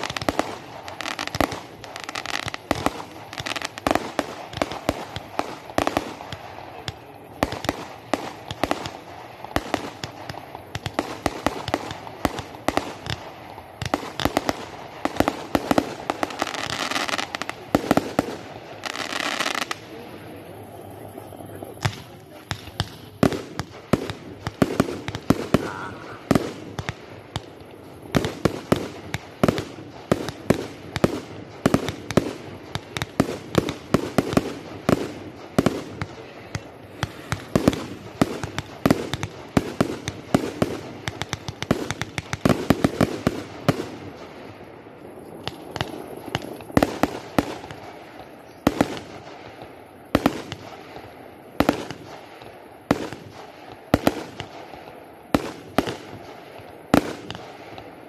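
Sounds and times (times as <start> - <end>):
fireworks bursting with sharp bangs: 0.0 - 58.0.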